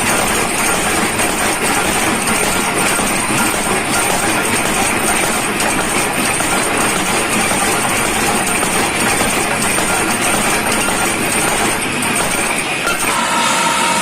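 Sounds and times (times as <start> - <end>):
high mechanical whine: 0.0 - 14.0
workshop machinery running: 0.0 - 14.0.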